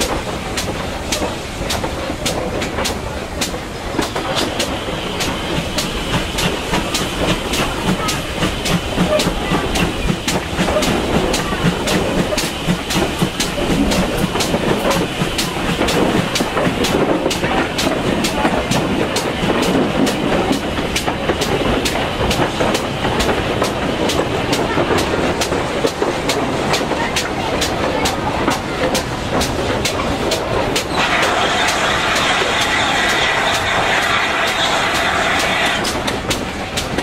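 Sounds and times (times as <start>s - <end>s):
steam locomotive exhaust beat: 0.0s - 37.0s
train wheels clattering on rails: 0.0s - 37.0s.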